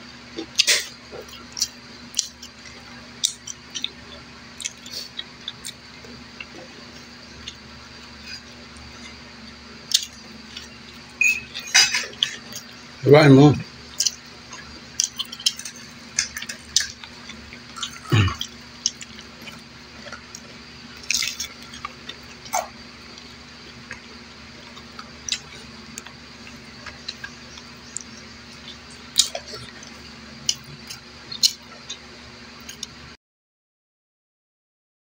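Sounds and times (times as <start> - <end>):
steady low hum: 0.0 - 33.2
wet chewing: 0.4 - 11.1, 13.9 - 33.0.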